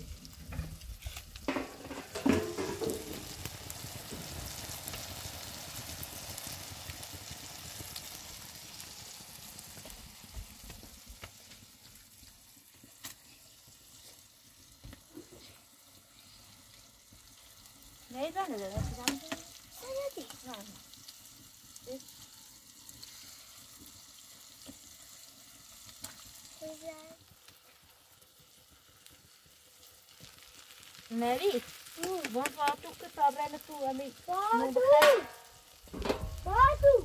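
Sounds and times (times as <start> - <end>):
eggs sizzling in a frying pan: 0.0 - 37.0.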